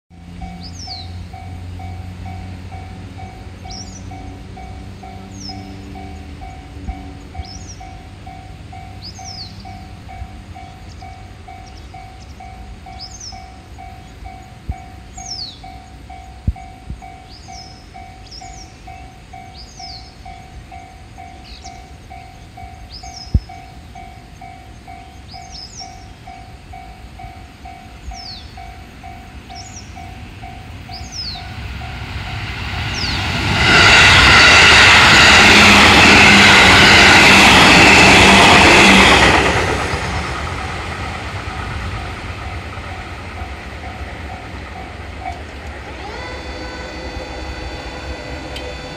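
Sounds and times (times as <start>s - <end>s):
electric train passing: 0.1s - 48.9s.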